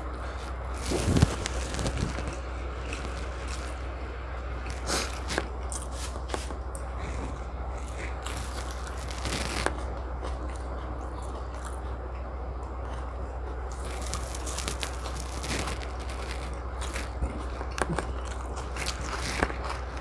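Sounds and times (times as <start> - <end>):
chewing and biting food: 0.0 - 20.0
steady low hum: 0.0 - 20.0.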